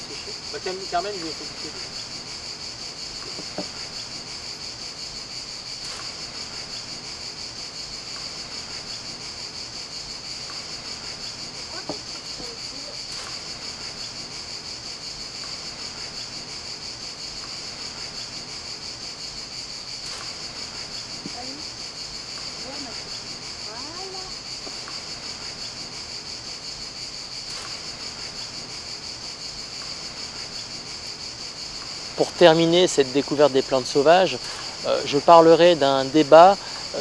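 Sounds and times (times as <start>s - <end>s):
insects chorus: 0.0s - 37.0s.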